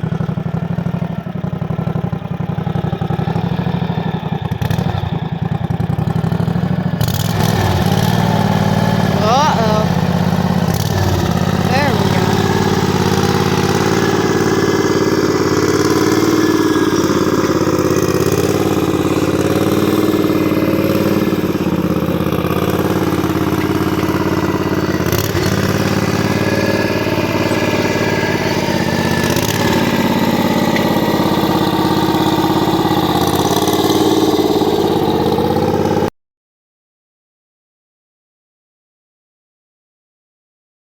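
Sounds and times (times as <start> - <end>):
garden tractor engine running: 2.7 - 36.1.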